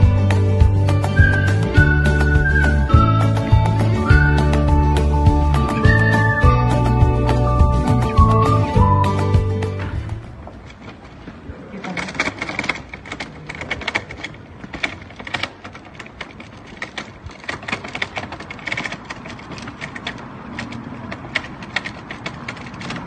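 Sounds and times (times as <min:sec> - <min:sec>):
trolley wheels rattling on pavement: 0:00.0 - 0:23.0.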